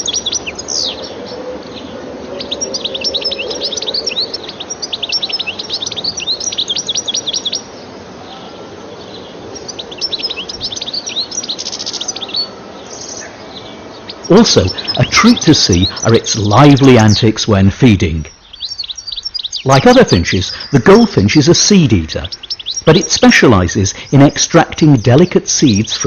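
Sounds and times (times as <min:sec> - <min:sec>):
goldfinch twittering song: 0:00.0 - 0:26.0.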